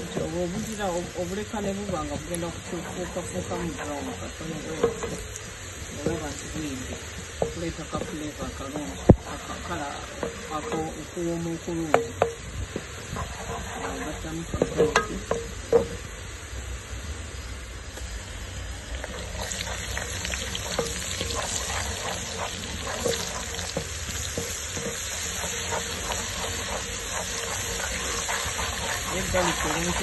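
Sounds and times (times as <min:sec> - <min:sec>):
wooden spatula scraping a pot: 0:00.0 - 0:16.0, 0:19.0 - 0:30.0
onions sizzling in oil: 0:00.0 - 0:30.0.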